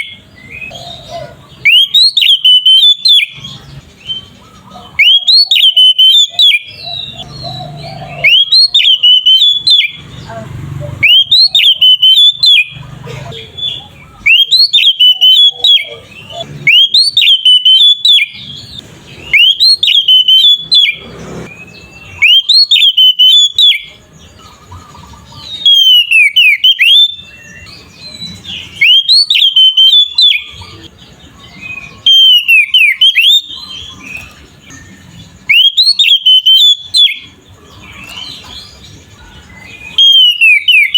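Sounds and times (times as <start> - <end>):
bird twittering: 0.0 - 40.9
magpie-robin singing: 0.0 - 40.9.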